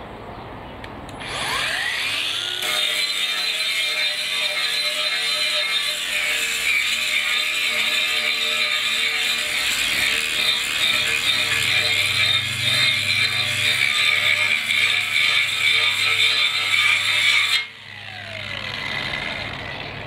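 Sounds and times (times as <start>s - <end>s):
angle grinder whining: 1.1s - 20.0s.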